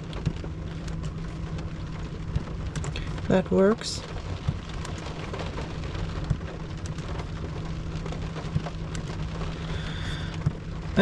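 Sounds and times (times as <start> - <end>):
rain pattering on a car: 0.0 - 11.0
steady low hum: 0.0 - 11.0.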